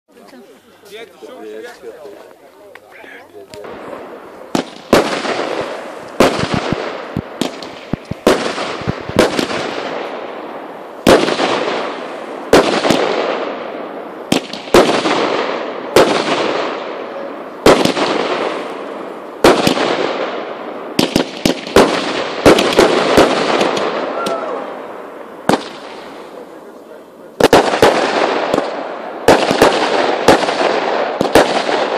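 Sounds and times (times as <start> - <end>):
fireworks crackling hiss: 0.2 - 31.9
fireworks bangs: 2.8 - 31.9.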